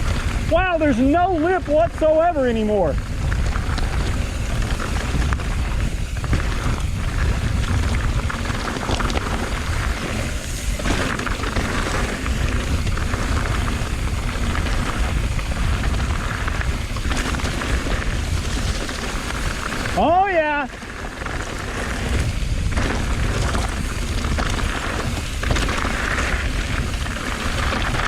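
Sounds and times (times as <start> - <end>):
bike rattling over rocky ground: 0.0 - 28.0
wind rumble on microphone: 0.0 - 28.0.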